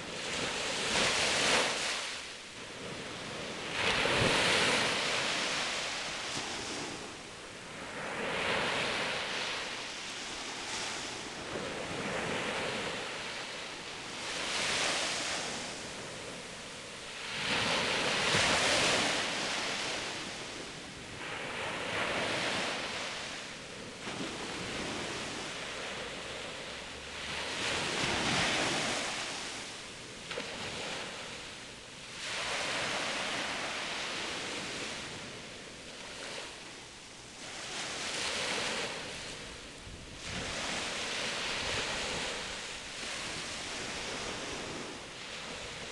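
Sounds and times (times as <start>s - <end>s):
small waves breaking on beach: 0.0s - 45.9s.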